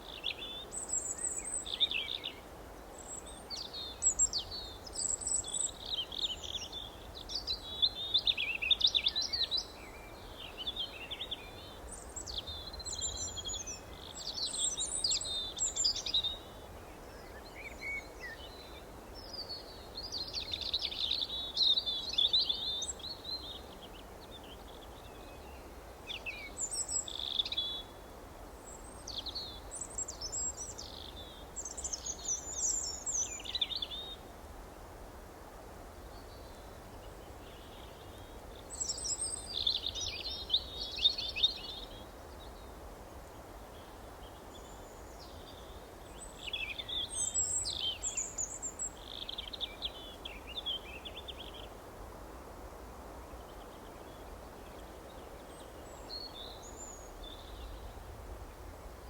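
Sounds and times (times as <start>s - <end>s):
low background hiss: 0.0s - 59.0s.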